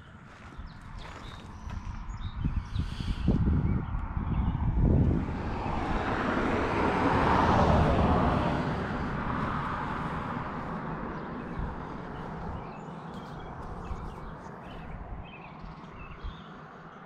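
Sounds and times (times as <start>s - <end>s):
vehicle passing by: 3.3s - 17.0s.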